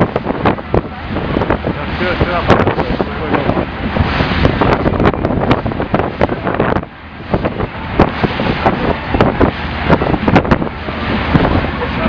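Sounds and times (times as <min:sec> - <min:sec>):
speedboat engine: 0:00.0 - 0:12.0
wind buffeting microphone: 0:00.0 - 0:12.0.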